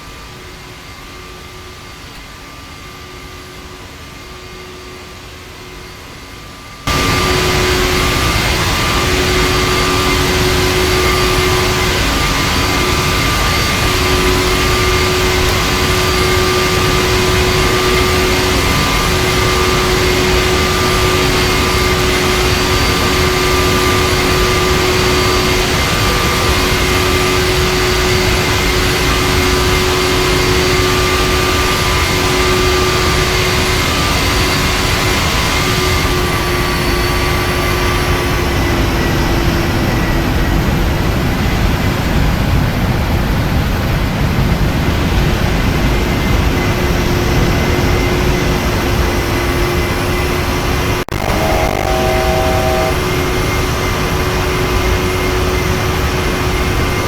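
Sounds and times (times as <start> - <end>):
jet engines roaring in cabin: 0.0 - 57.0.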